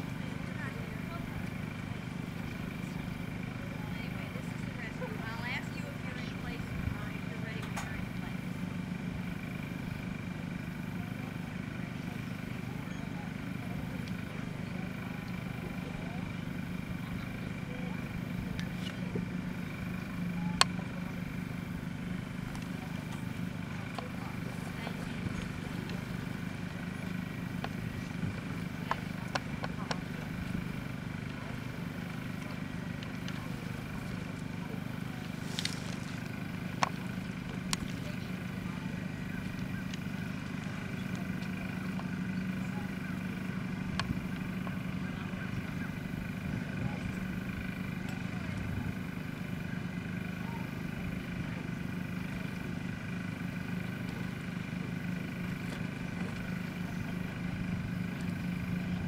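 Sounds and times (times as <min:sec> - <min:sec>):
pulsing engine-like hum: 0:00.0 - 0:59.0.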